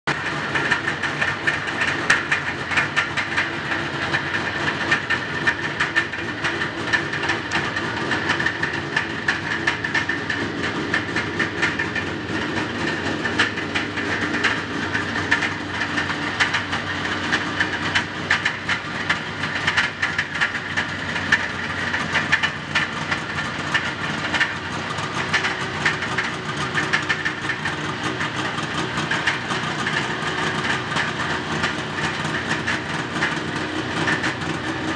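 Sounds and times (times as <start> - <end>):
snowmobile engines idling: 0.1 - 34.9.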